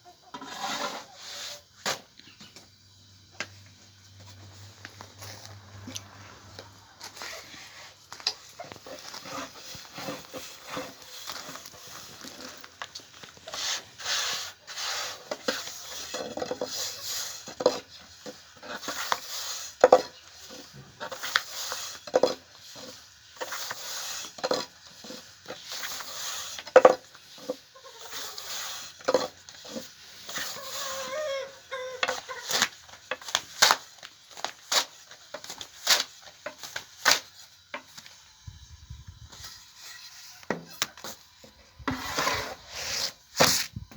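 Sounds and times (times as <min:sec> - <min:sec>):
utensil scraping and stirring: 0:00.3 - 0:02.0, 0:07.1 - 0:38.1, 0:39.4 - 0:43.7.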